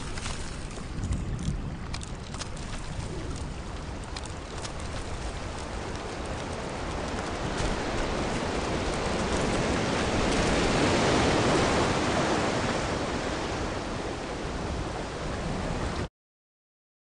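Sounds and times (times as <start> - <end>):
heavy rain: 0.0 - 16.1.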